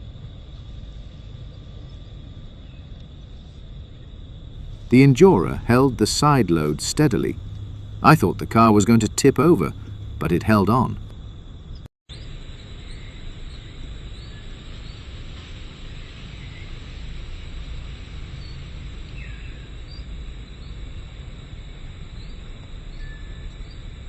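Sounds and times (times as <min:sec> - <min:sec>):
low steady rumble: 0:00.0 - 0:22.9
crickets shrilling: 0:00.0 - 0:24.0
faint insect chirps: 0:00.0 - 0:24.0.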